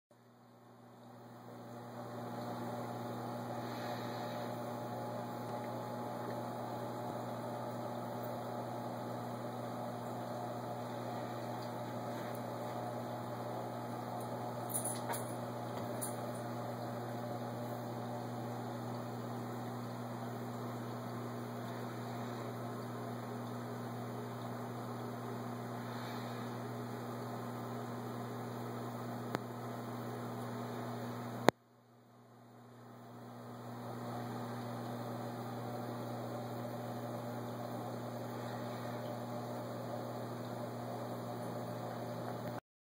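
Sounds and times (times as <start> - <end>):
aquarium equipment humming: 0.2 - 42.6.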